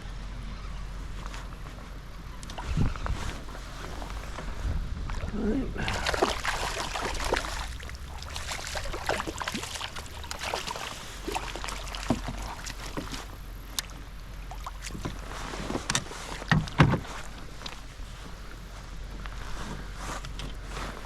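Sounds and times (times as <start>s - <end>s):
water splashing against boat: 2.4s - 21.0s.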